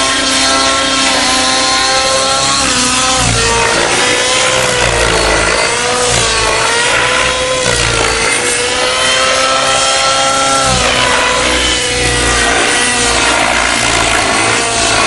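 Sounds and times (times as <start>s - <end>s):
model helicopter engine and rotor: 0.0s - 15.0s.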